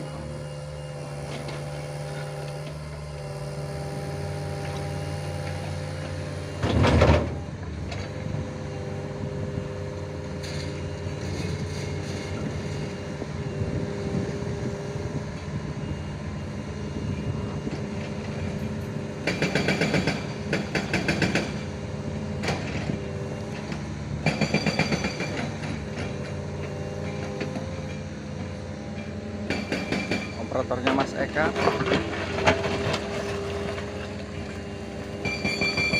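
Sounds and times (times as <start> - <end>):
diesel engine running: 0.0 - 35.9
excavator tracks clanking: 1.1 - 9.0, 10.4 - 13.1, 17.2 - 35.9.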